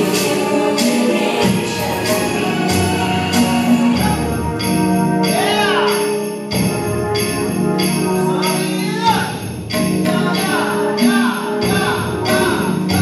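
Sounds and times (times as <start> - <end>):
pop track with synthesizer: 0.0 - 13.0.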